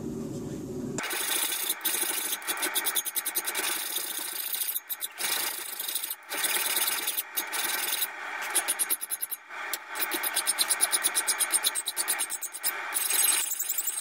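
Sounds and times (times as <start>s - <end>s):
hand file rasping on metal: 1.0s - 14.0s.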